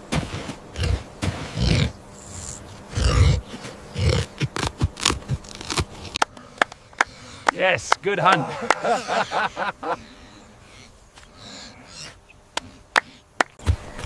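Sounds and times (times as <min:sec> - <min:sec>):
wild boar grunting: 0:00.7 - 0:07.6, 0:08.5 - 0:13.4.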